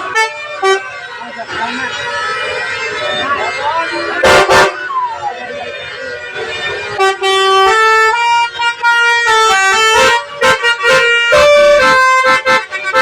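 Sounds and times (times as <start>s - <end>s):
musical bus horn playing a tune: 0.0s - 5.0s, 5.8s - 13.0s.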